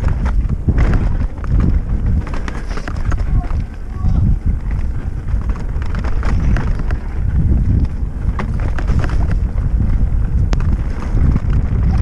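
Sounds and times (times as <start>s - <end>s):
bike rattling and clicking: 0.0s - 12.0s
bike tyres rolling on dirt: 0.0s - 12.0s
wind buffeting microphone: 0.0s - 12.0s.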